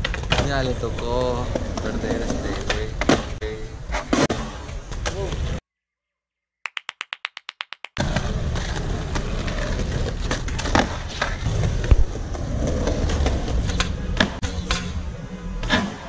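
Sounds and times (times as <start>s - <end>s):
skateboard wheels rolling on concrete: 0.0s - 5.6s, 8.0s - 16.0s.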